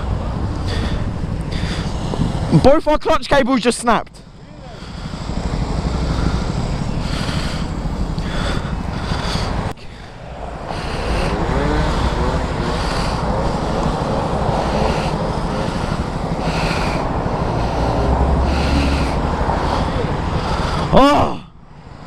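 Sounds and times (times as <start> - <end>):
deeper rumble: 0.0 - 2.7, 4.2 - 22.0
motorcycle engines idling: 0.0 - 22.0
road traffic passing: 0.0 - 22.0.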